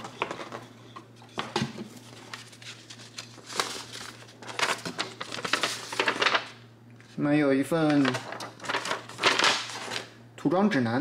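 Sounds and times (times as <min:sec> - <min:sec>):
paper rustling: 0:01.3 - 0:10.1.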